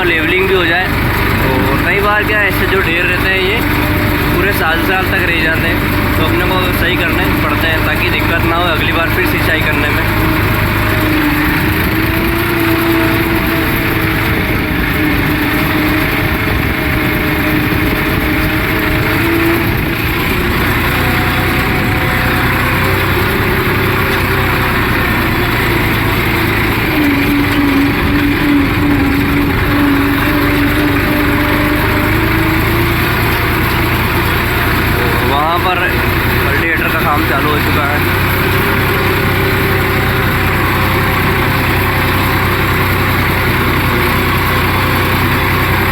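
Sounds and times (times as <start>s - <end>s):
tractor engine running under load: 0.0s - 45.9s.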